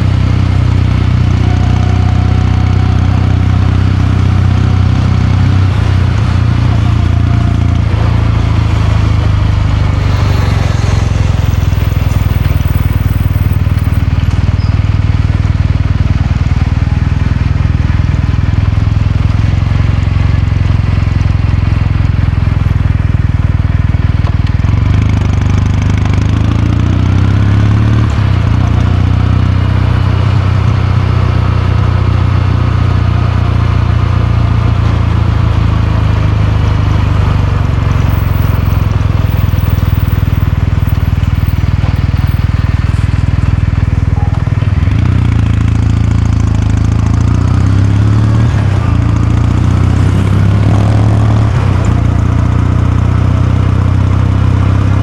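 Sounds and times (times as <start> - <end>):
motorcycle engine and exhaust: 0.0 - 55.0.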